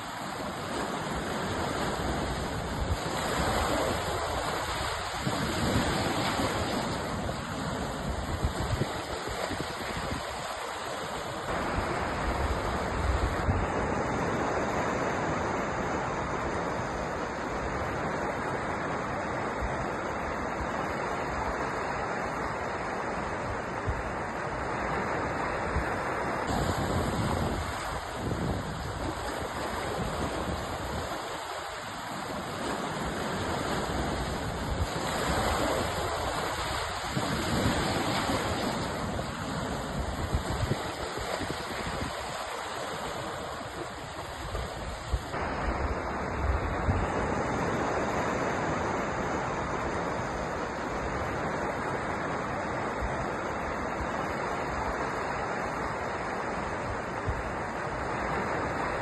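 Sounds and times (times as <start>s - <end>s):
ocean surf: 0.0s - 59.0s.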